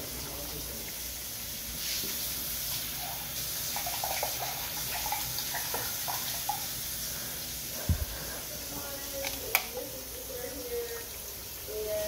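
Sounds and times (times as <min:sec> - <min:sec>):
liquid simmering in a pot: 0:00.0 - 0:12.0.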